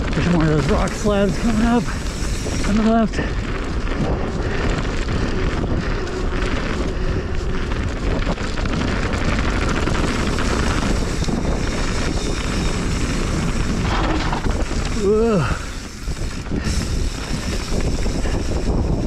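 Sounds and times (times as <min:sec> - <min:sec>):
tyres rolling on dirt and rock: 0:00.0 - 0:19.0
wind rushing over microphone: 0:00.0 - 0:19.0.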